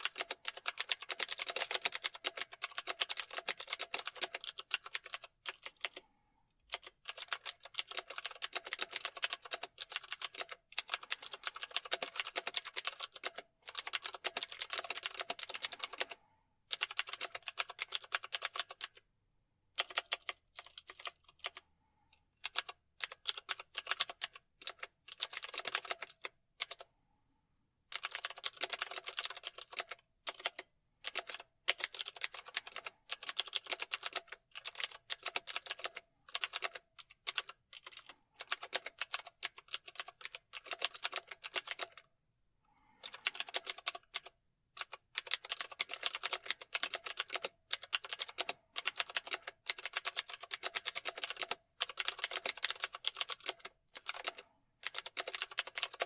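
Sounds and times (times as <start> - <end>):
typing on keyboard: 0.0 - 6.1, 6.7 - 19.0, 19.8 - 21.7, 22.4 - 26.9, 27.9 - 42.1, 43.0 - 56.0.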